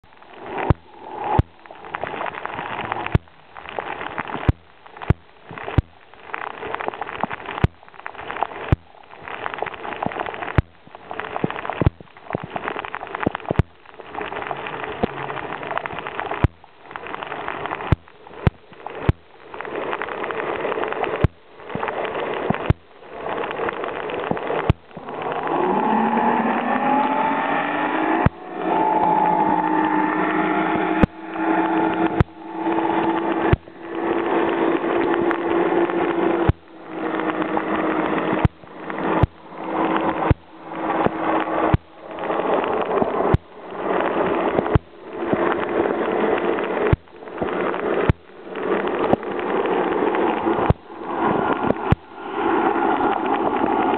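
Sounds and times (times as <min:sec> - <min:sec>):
pitched drone with shifting tones: 0:00.0 - 0:22.8, 0:23.4 - 0:53.9
sharp clicks: 0:00.0 - 0:30.0, 0:31.0 - 0:53.9
rushing water underwater: 0:00.0 - 0:53.9.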